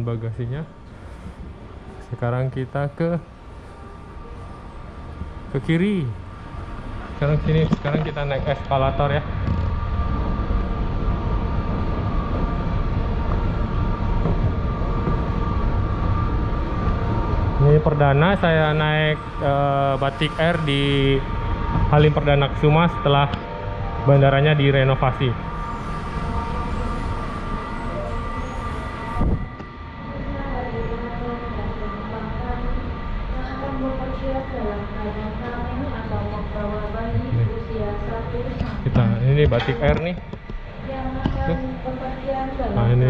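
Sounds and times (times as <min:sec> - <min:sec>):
escalator mechanical rumble: 0:00.0 - 0:43.0
faint constant whine: 0:00.0 - 0:43.0.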